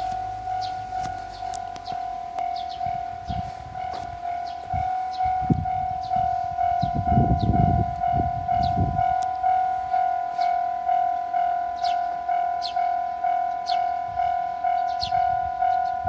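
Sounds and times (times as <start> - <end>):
level-crossing warning bell: 0.0 - 16.0.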